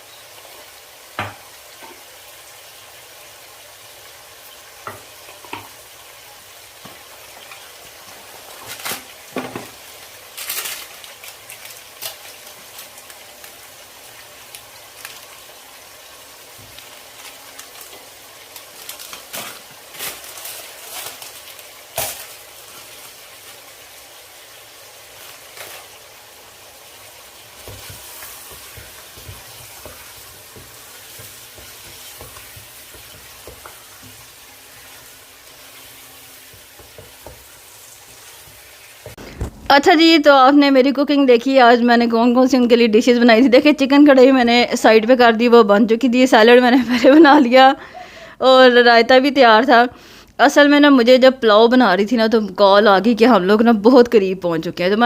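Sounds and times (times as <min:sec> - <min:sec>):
food sizzling in a pan: 0:00.0 - 0:48.6.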